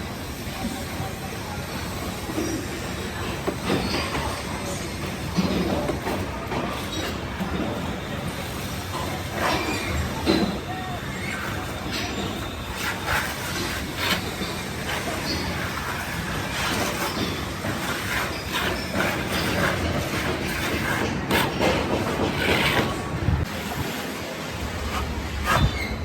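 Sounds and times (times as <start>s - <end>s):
trowel scraping plaster: 2.3s - 23.5s.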